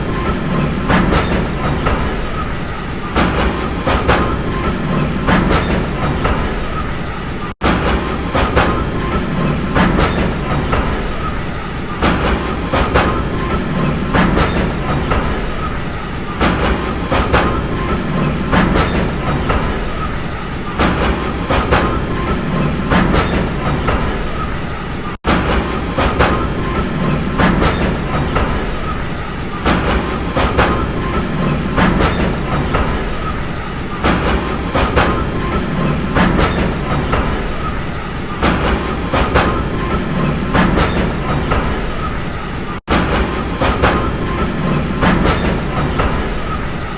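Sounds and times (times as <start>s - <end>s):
train rumbling on track: 0.0s - 46.9s
wheels clicking over rail joints: 0.0s - 46.9s.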